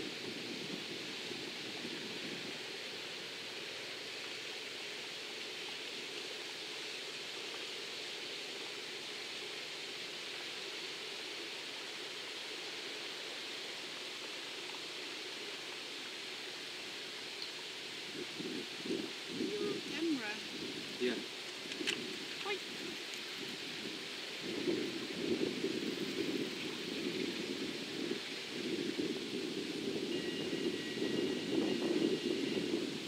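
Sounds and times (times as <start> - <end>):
outdoor background hiss: 0.0 - 33.0.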